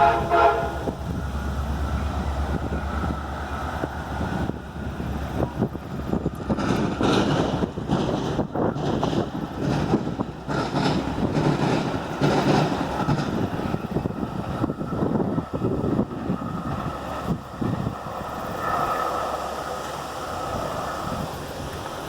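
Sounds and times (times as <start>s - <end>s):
passing train rumble: 0.0s - 22.0s
wind buffeting microphone: 0.0s - 22.0s.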